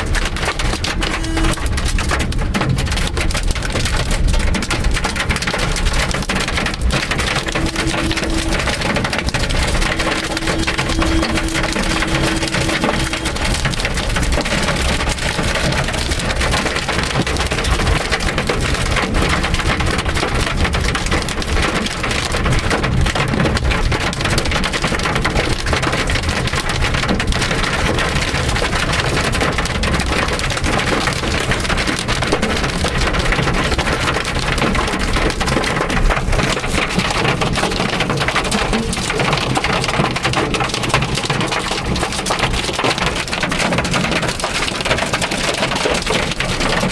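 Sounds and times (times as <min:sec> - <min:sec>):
hail hitting car roof: 0:00.0 - 0:46.9.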